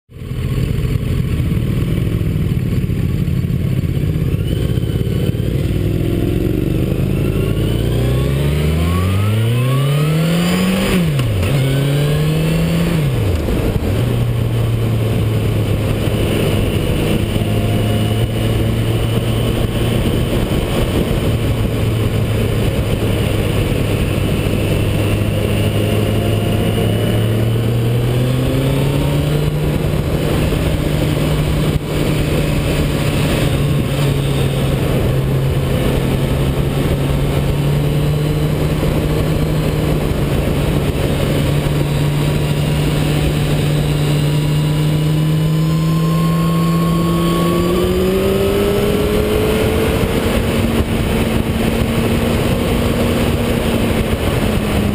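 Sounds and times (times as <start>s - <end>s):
motorcycle engine accelerating: 0.1s - 54.9s
wind noise: 0.2s - 54.9s.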